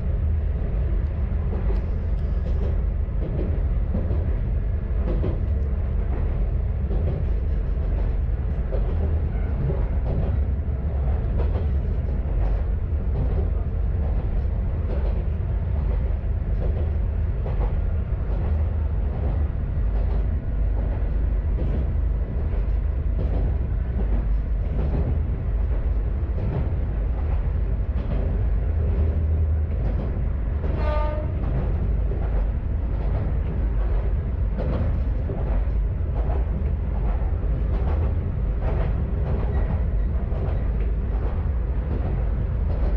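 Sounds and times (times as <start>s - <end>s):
diesel railcar engine rumble: 0.0s - 42.9s.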